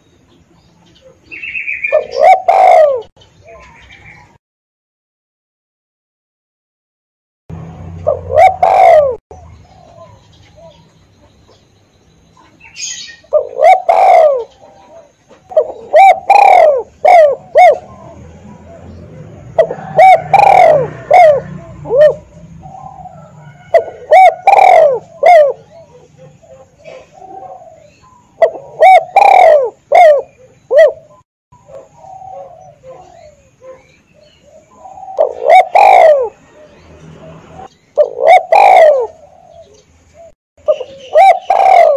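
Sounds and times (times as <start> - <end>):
dove cooing: 0.9 - 4.2, 7.9 - 10.9, 12.6 - 41.9.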